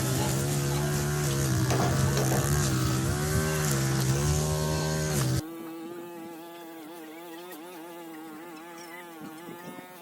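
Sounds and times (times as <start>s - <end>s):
flying insect buzzing: 0.0s - 10.0s.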